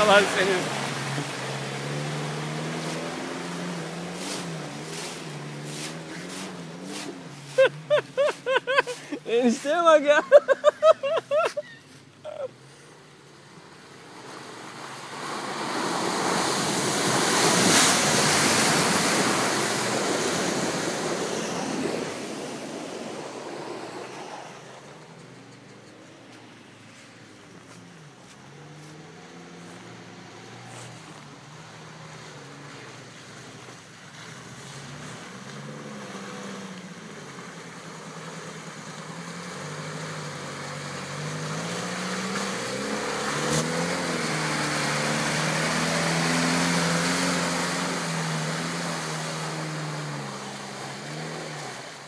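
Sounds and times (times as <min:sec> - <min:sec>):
vehicle engine revving: 0:00.0 - 0:10.0, 0:14.1 - 0:52.0.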